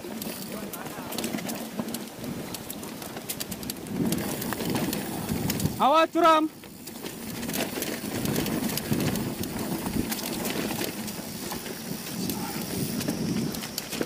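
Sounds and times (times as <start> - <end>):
bike chain rattling: 0.0 - 14.0
tyres rolling on loose dirt: 0.0 - 14.0.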